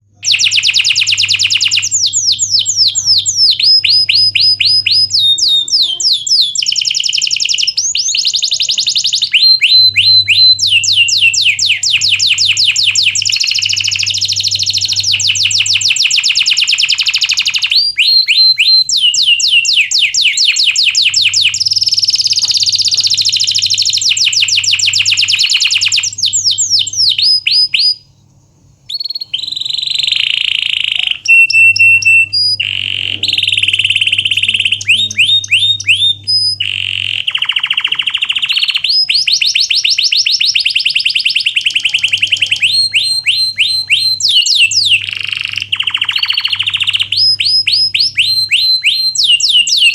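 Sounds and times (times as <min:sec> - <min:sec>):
canary singing trills: 0:00.0 - 0:49.9
faint low hum: 0:00.0 - 0:49.9.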